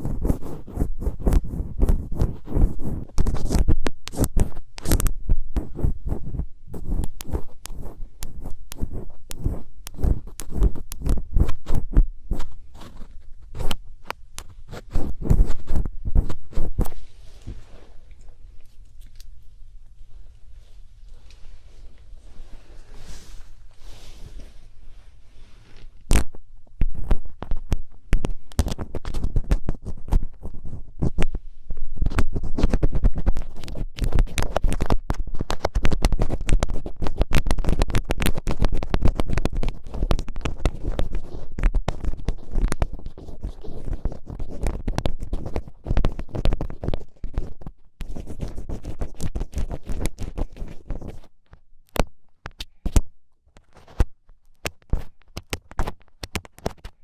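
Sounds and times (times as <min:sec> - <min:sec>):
ear pick scratching inside ear: 0:00.0 - 0:18.0, 0:25.4 - 0:31.4, 0:32.0 - 0:51.4, 0:52.5 - 0:57.0.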